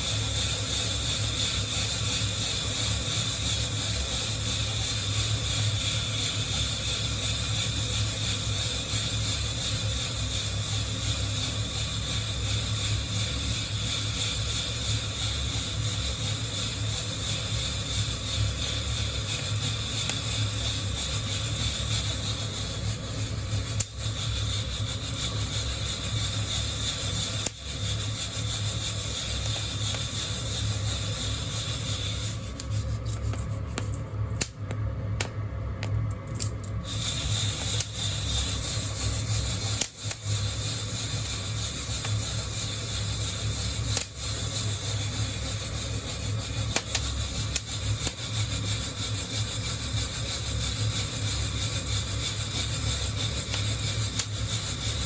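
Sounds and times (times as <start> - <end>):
steady hiss: 0.0 - 34.6, 36.8 - 55.0.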